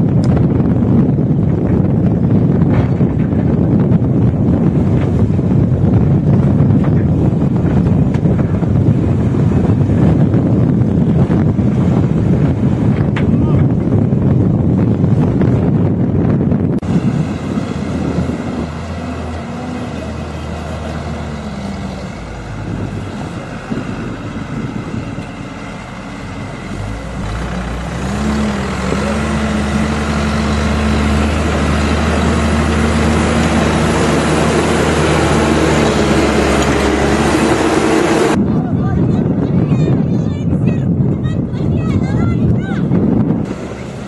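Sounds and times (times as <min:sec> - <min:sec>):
heavy vehicle engine running: 0:00.0 - 0:44.0.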